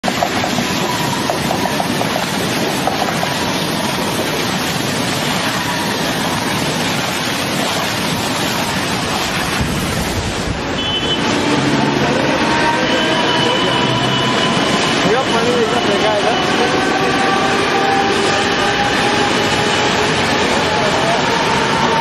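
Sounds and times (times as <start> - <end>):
train water spray rushing hiss: 0.0 - 22.0.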